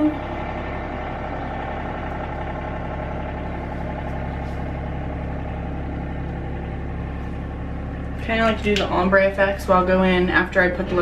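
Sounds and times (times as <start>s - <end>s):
motor droning: 0.0s - 11.0s.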